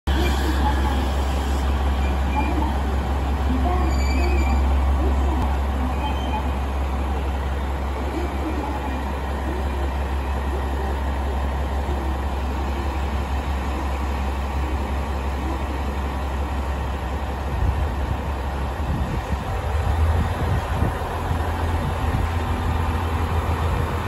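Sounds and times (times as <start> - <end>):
diesel engine idling: 0.7 - 24.0.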